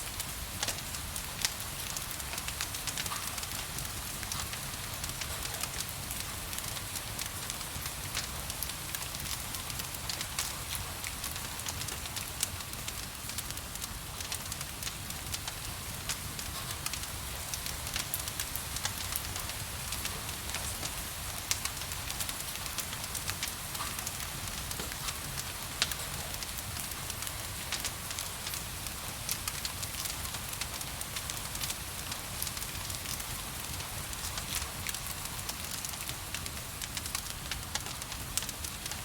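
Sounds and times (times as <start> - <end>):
fireplace fire crackling: 0.0 - 39.0
gentle rain hiss: 0.0 - 39.0.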